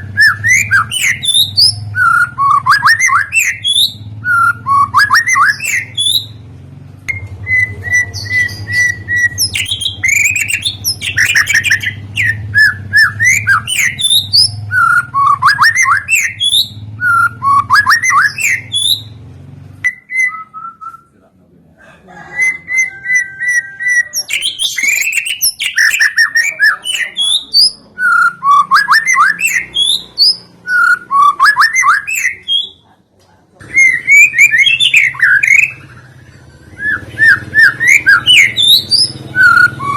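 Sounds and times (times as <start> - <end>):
songbird singing whistled notes: 0.0 - 6.4, 7.1 - 19.2, 19.8 - 21.1, 22.4 - 32.9, 33.6 - 39.9.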